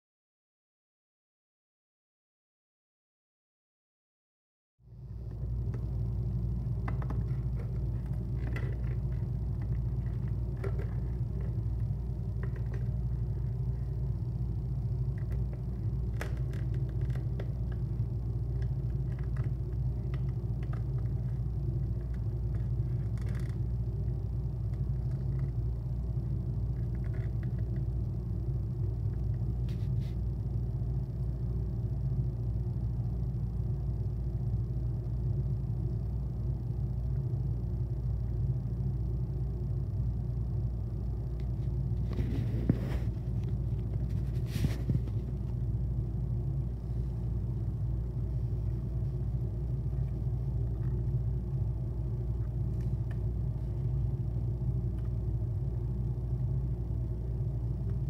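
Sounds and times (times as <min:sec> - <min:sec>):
low mechanical hum: 0:04.8 - 0:58.0.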